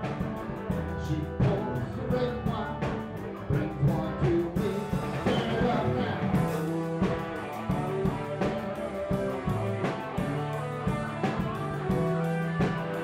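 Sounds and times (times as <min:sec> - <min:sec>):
electric guitars: 0:00.0 - 0:13.0
steady drum beat: 0:00.0 - 0:13.0.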